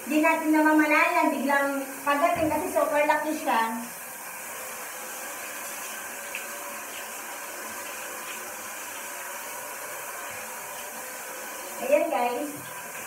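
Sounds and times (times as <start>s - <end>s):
shower water running: 0.0s - 13.0s.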